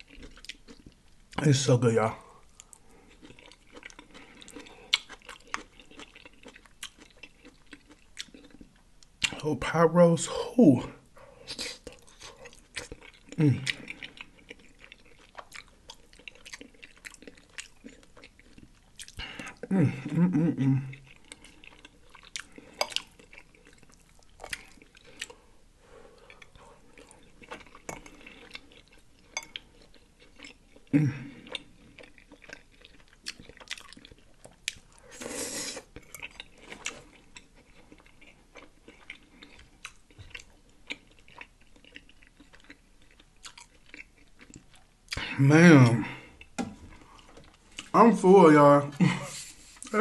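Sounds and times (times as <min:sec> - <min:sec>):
close chewing sounds: 0:00.0 - 0:01.5, 0:02.1 - 0:09.4, 0:11.2 - 0:50.0.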